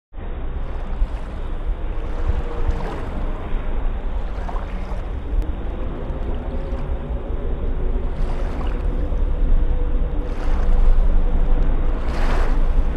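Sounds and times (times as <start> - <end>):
wind rumble on microphone: 0.1 - 12.9
surf washing over sand: 0.6 - 12.9.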